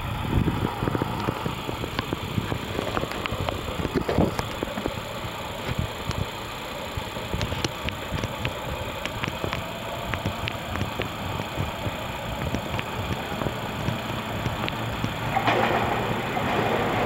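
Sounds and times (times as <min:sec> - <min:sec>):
electric train rumbling: 0:00.0 - 0:17.0
sharp clicks: 0:00.8 - 0:17.0.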